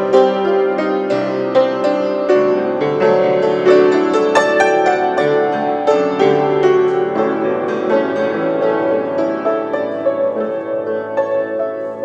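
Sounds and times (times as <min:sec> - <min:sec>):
solo piano playing a hymn: 0:00.0 - 0:12.0.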